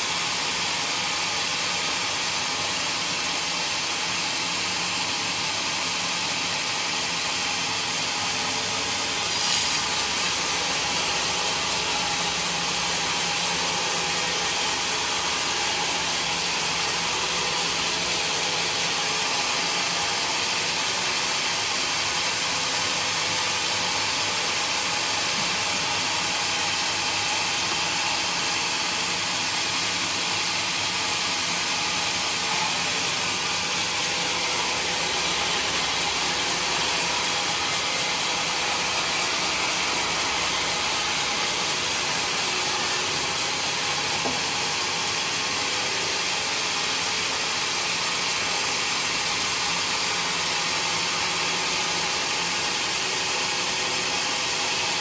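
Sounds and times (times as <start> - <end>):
band saw cutting wood: 0.0 - 22.5, 24.6 - 55.0.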